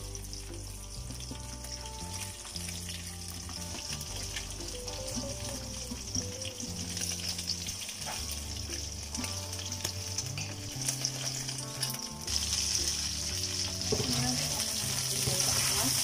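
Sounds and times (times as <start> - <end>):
prawns sizzling in hot oil: 0.0 - 16.0.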